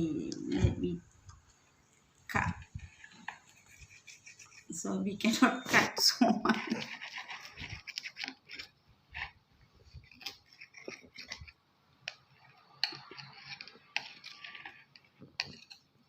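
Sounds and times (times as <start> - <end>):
utensil scraping against a dish: 2.3 - 5.6, 6.4 - 16.0.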